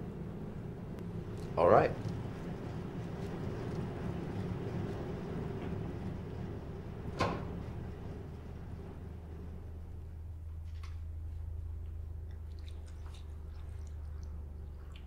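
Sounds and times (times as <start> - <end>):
low rumble drone: 0.0 - 15.0.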